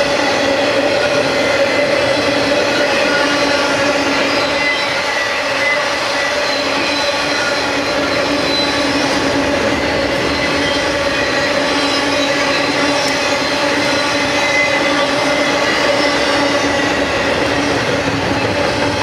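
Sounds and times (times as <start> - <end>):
train wheels rumbling on rail: 0.0 - 19.0
wheels squealing on track: 1.0 - 19.0.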